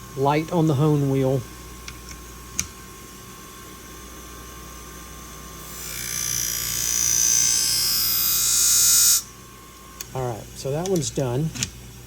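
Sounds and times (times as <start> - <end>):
sharpener motor hum: 0.0 - 12.0.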